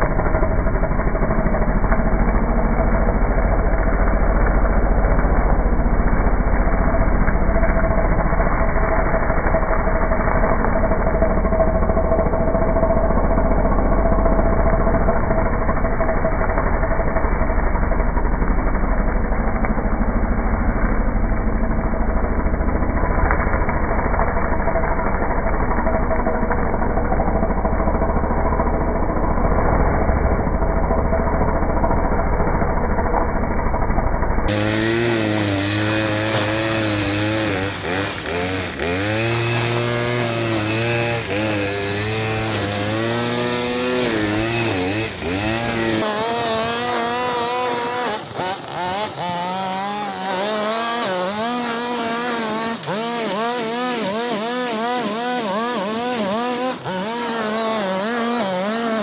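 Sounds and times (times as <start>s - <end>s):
brushcutter engine whine: 0.0s - 59.0s.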